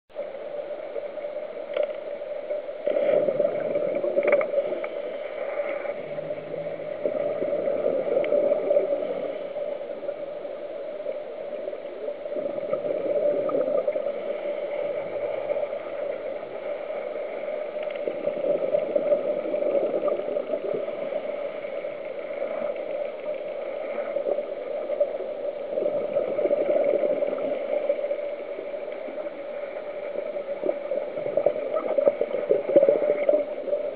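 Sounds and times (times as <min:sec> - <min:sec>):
bubbling exhaust underwater: 0:02.8 - 0:33.9.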